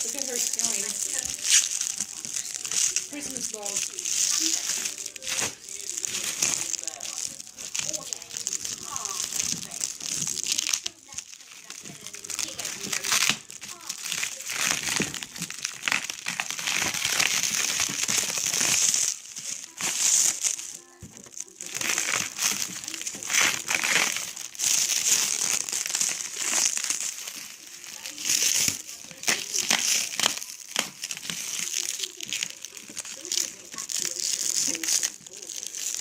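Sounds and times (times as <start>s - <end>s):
packing material rustling: 0.0s - 36.0s.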